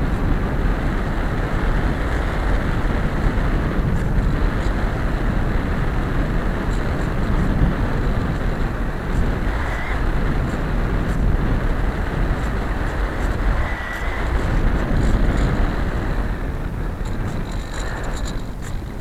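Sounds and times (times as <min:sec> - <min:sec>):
wind rushing: 0:00.0 - 0:19.0.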